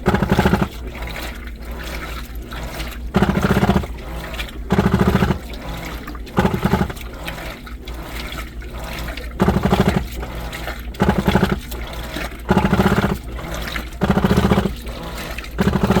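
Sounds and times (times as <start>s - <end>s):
harsh buzzing from washing machine: 0.0s - 16.0s
water sloshing in washing machine drum: 0.0s - 16.0s.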